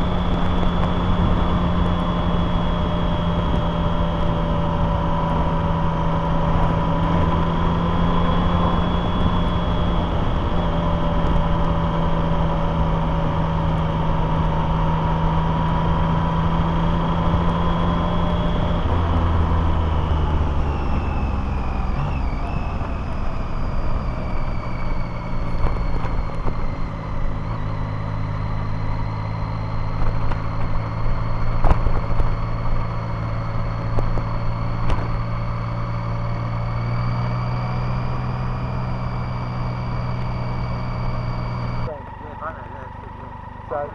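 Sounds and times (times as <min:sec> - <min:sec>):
motorcycle engine running: 0:00.0 - 0:43.9
road and wind noise: 0:00.0 - 0:43.9.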